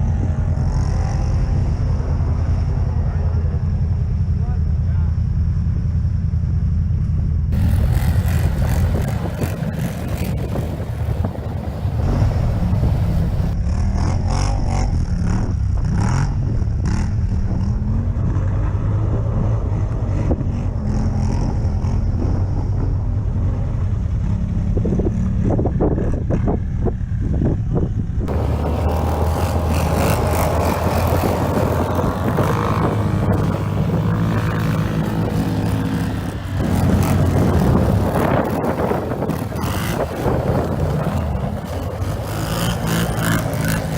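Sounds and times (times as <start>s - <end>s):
quad bike engine running: 0.0s - 43.9s
wind buffeting microphone: 7.5s - 43.9s.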